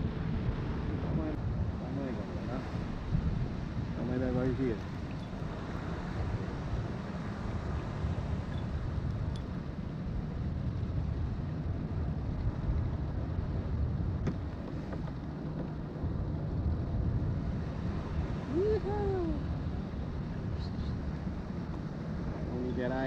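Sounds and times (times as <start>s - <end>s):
low rumbling noise: 0.0s - 23.0s.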